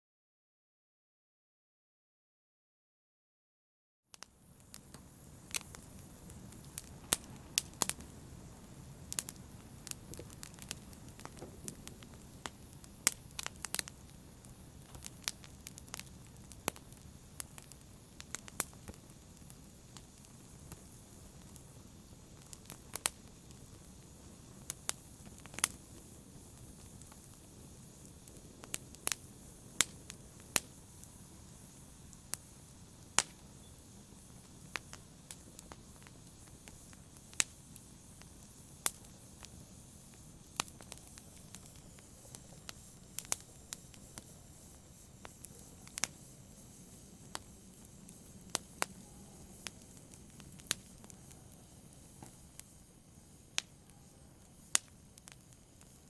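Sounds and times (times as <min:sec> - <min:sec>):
wood fire crackling: 0:04.1 - 0:56.0.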